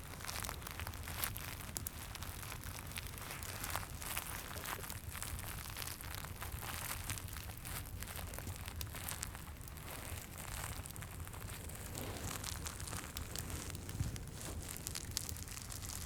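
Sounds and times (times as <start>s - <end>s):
fireplace rumble: 0.0s - 16.0s
plastic crinkling: 0.0s - 16.0s.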